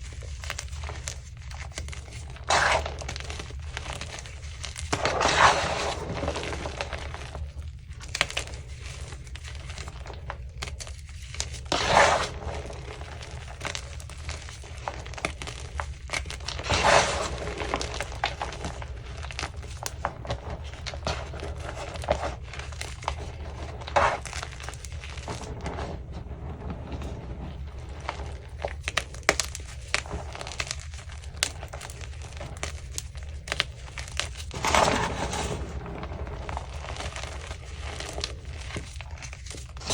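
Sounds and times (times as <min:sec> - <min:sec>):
fine crackling and crumbling: 0:00.0 - 0:39.9
chalk crunching: 0:00.2 - 0:39.9.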